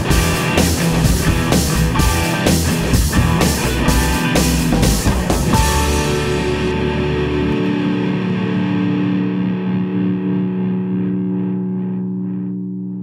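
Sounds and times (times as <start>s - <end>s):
deep bass: 0.0s - 13.0s
distorted electric guitar chord: 0.0s - 13.0s
rock music: 0.0s - 13.0s.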